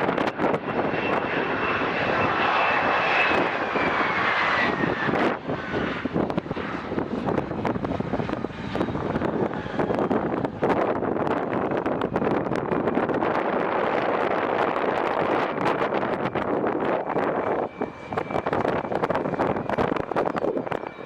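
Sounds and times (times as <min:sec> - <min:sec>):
airplane engines passing: 0:00.0 - 0:21.0.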